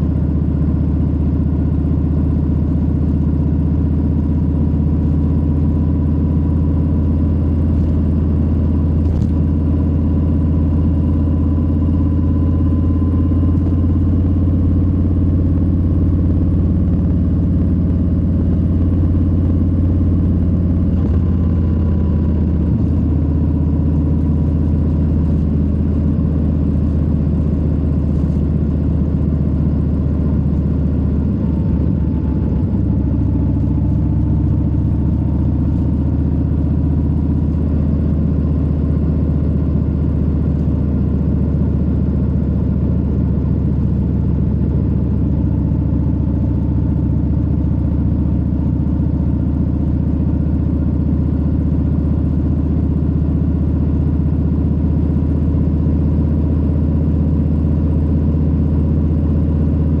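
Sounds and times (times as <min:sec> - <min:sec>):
motorcycle engine running steadily: 0:00.0 - 1:00.0.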